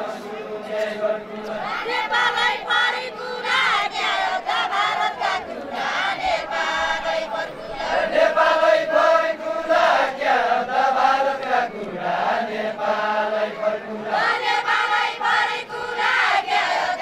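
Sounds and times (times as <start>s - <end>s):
men singing folk song: 0.0s - 17.0s.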